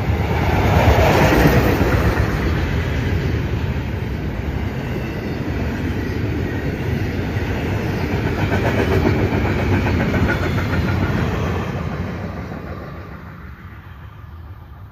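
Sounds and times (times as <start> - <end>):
freight train wheels clattering on rails: 0.0 - 14.9.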